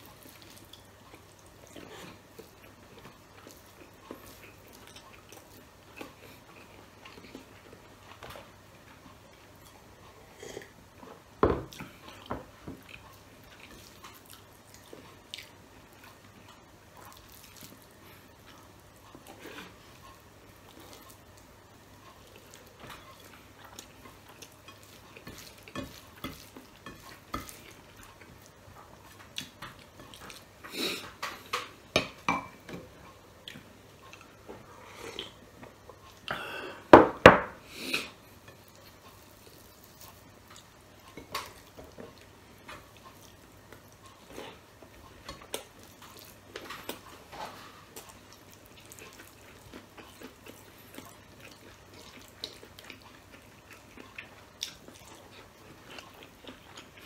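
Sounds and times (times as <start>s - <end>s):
man chewing and smacking: 0.0s - 36.4s, 38.3s - 57.0s.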